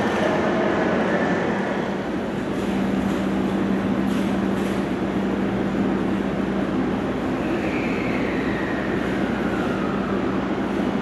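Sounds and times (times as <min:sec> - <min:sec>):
constant low hum: 0:00.0 - 0:11.0
train rumble: 0:00.0 - 0:11.0.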